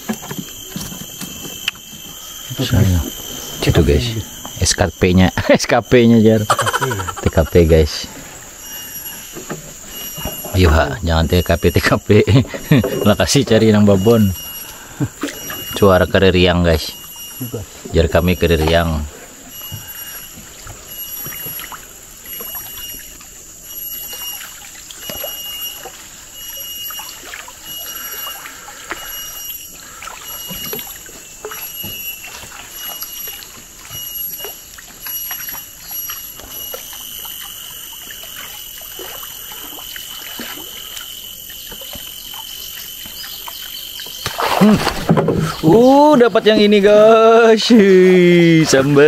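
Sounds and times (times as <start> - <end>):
canoe paddle strokes: 0.0 - 4.6, 6.6 - 10.9, 11.8 - 16.2, 16.8 - 46.9
cicadas droning: 0.0 - 49.0
water trickling: 0.0 - 49.0.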